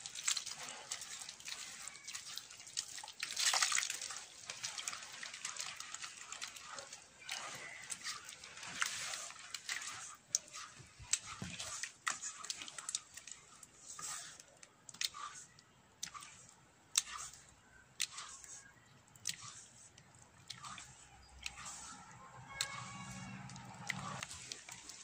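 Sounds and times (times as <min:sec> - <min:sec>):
hand sloshing liquid in bowl: 0:00.0 - 0:25.0.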